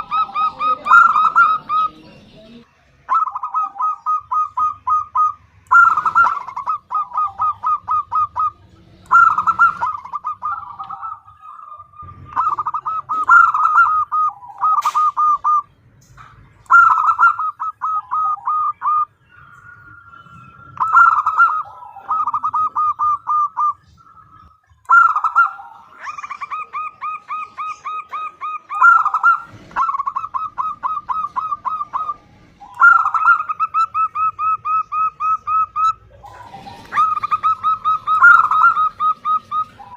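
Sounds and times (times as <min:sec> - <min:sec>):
dove calling rapid short notes: 0:00.0 - 0:02.3, 0:03.1 - 0:15.8, 0:16.6 - 0:39.9.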